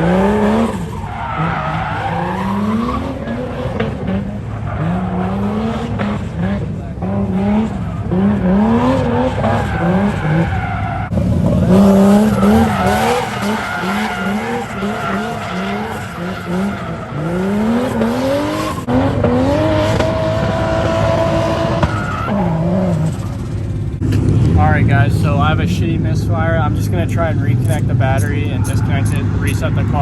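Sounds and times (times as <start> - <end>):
car engine revving: 0.0 - 30.0
tyres skidding: 0.0 - 30.0.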